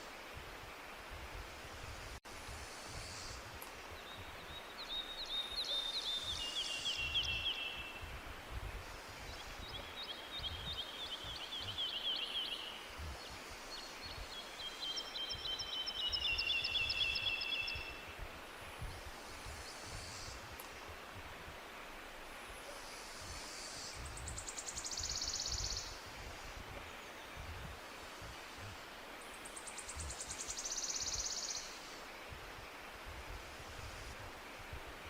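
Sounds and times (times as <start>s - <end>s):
forest ambience hiss: 0.0s - 35.0s
songbird singing: 2.8s - 34.8s.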